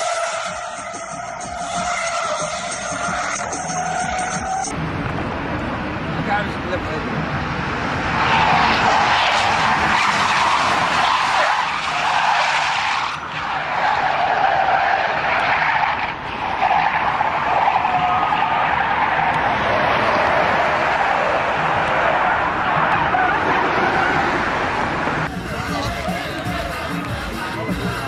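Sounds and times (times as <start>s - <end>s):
car tyres screeching: 0.0s - 4.8s, 6.2s - 28.0s.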